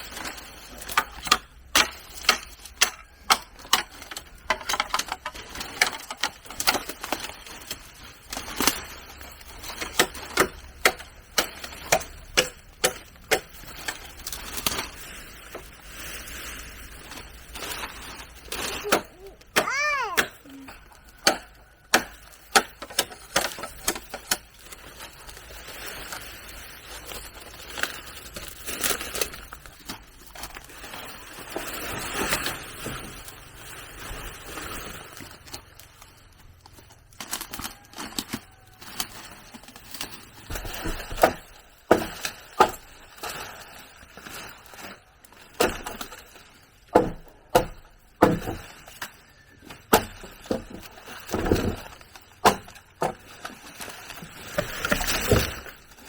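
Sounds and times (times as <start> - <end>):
rustling and scraping: 0.0 - 56.0.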